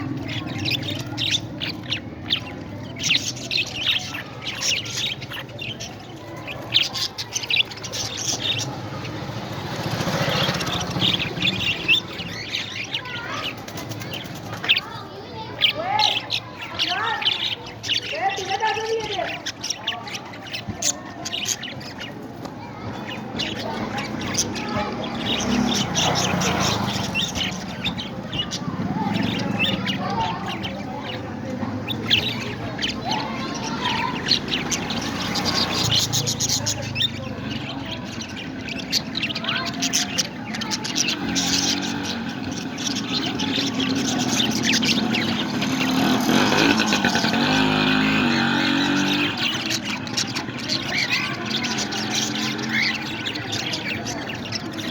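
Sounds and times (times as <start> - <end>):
parrots chirping: 0.0 - 54.9.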